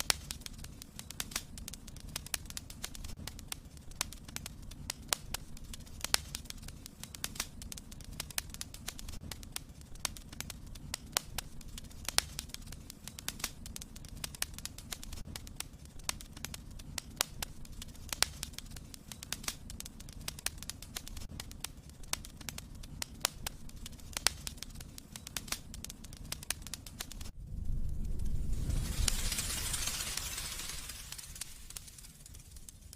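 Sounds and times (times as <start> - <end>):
steady hiss: 0.0 - 32.9
wood fire crackling: 0.0 - 32.9.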